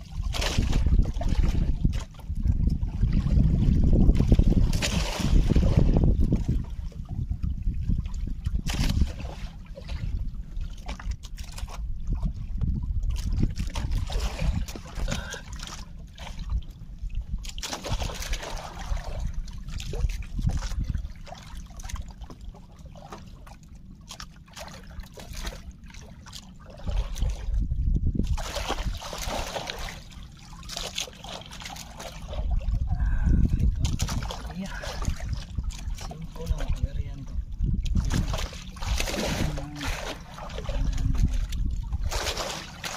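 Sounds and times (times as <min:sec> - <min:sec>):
steady low rumble: 0:00.0 - 0:42.9
water splashing against boat: 0:00.0 - 0:42.9.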